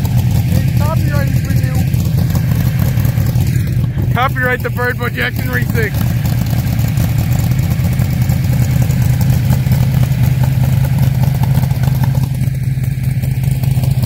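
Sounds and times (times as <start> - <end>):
car exhaust droning steadily: 0.0 - 14.0.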